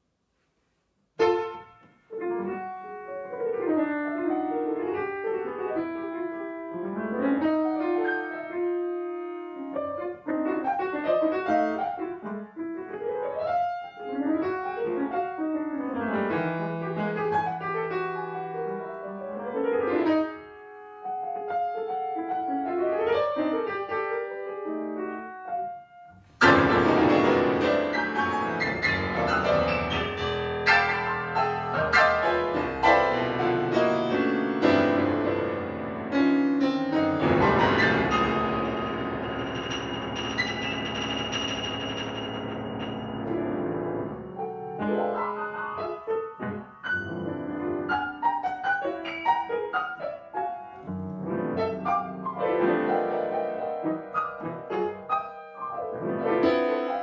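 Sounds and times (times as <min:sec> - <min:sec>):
grand piano playing atonal music: 0:01.1 - 0:57.0.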